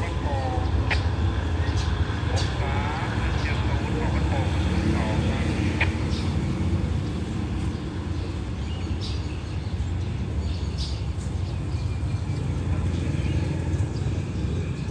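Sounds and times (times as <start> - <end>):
low engine rumble: 0.0 - 14.9.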